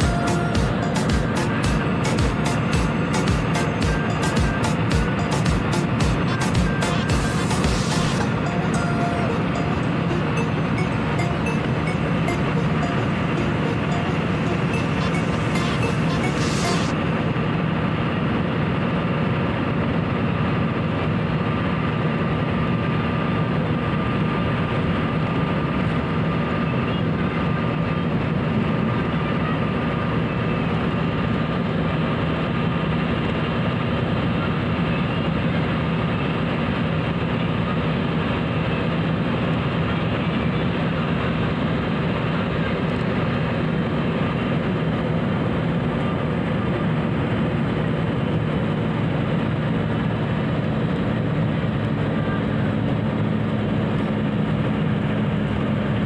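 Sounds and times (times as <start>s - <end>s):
engine drone: 0.0s - 56.0s
tyre road noise: 0.0s - 56.0s.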